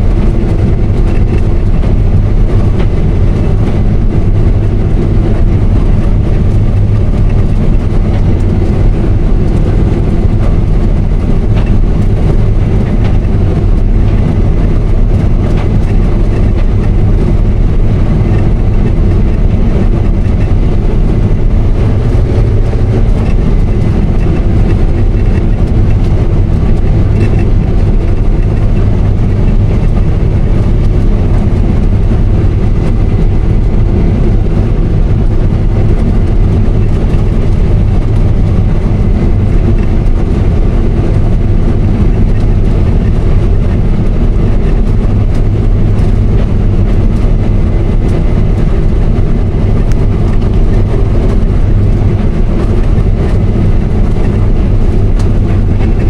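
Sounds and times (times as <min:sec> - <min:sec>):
combine harvester engine drone: 0:00.0 - 0:56.0
whir of machinery: 0:00.0 - 0:56.0.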